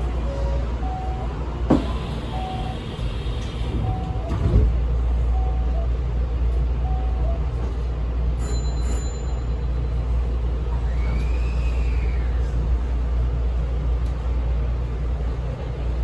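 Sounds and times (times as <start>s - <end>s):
electric train rumbling: 0.0s - 16.0s
train rattling: 0.0s - 16.0s.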